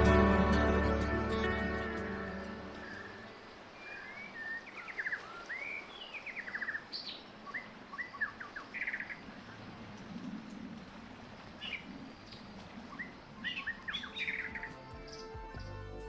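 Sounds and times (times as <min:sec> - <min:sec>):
songbird singing: 0:00.0 - 0:15.8.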